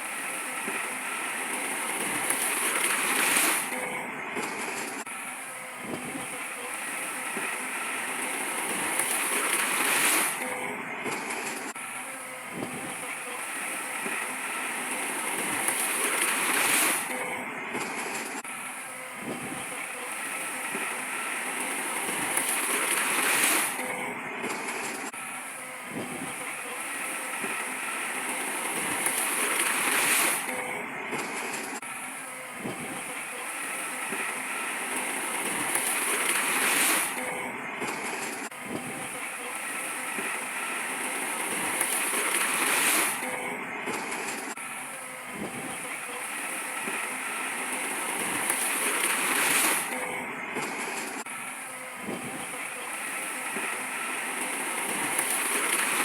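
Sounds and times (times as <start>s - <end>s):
earthmoving machinery rushing noise: 0.0s - 56.0s.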